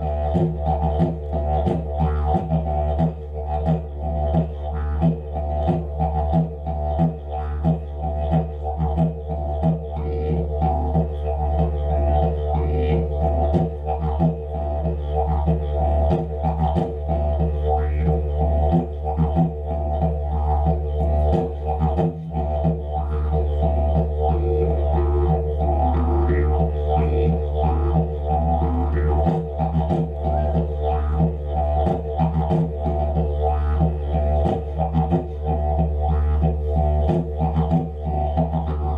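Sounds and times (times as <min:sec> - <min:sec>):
didgeridoo drone: 0:00.0 - 0:38.9.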